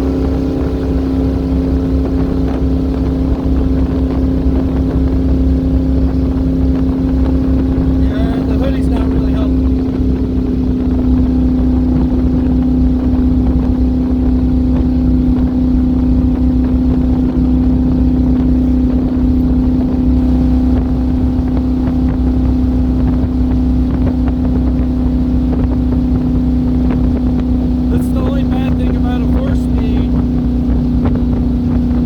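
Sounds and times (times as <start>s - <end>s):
car engine cruising: 0.0s - 21.3s, 26.3s - 32.0s
wind noise on microphone: 0.0s - 32.0s.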